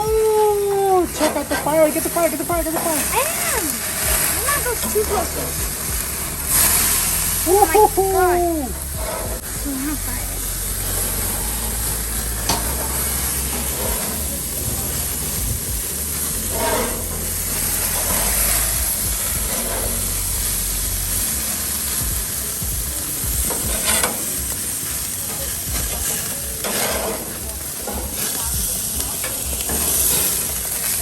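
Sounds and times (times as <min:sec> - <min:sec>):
burger patties sizzling on grill: 0:00.0 - 0:31.0.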